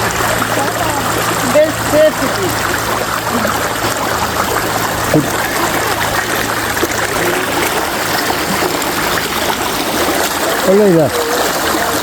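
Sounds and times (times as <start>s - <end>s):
river babbling over rocks: 0.0s - 12.0s.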